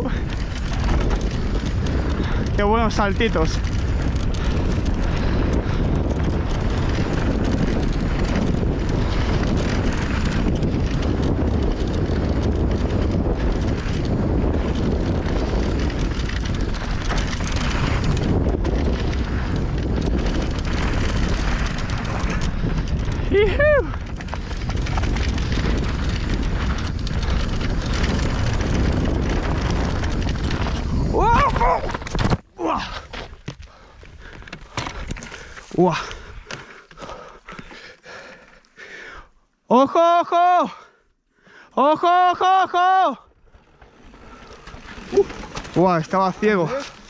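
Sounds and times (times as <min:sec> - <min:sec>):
wind rush on microphone: 0:00.0 - 0:38.4, 0:42.6 - 0:47.0
bike rattling: 0:00.0 - 0:39.2, 0:41.8 - 0:47.0
bike tyres rolling on dirt: 0:00.0 - 0:47.0.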